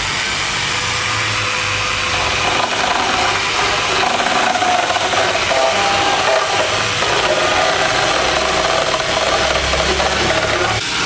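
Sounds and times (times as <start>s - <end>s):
angle grinder chain cutting: 2.1s - 11.0s.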